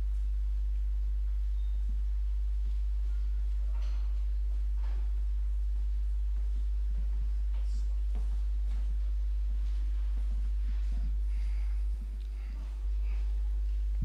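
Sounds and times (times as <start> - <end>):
faint movement sounds: 0.0 - 14.0
low electrical mains hum: 0.0 - 14.0.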